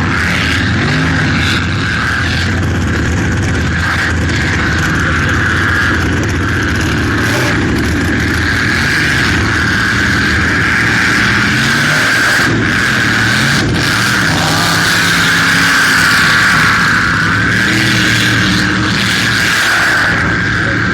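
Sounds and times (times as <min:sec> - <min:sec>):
boat engine running at high revs: 0:00.0 - 0:20.9.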